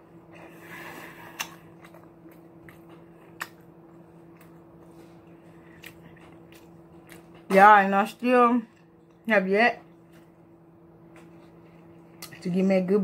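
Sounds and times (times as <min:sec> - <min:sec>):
close chewing and mouth sounds: 0:00.0 - 0:10.5, 0:11.1 - 0:12.7
low background hum: 0:00.0 - 0:13.0.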